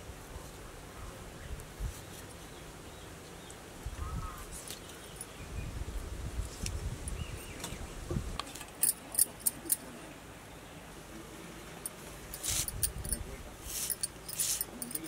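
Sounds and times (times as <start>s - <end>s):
low outdoor background: 0.0s - 15.0s.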